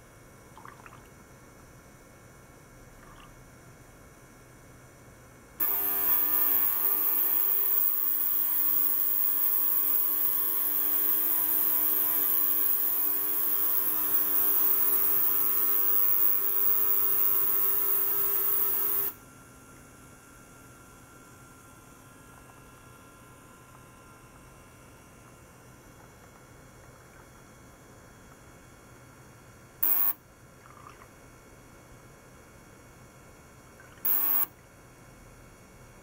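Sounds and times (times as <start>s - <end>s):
ultrasonic cleaner buzzing hum: 5.3s - 32.1s, 32.7s - 36.0s.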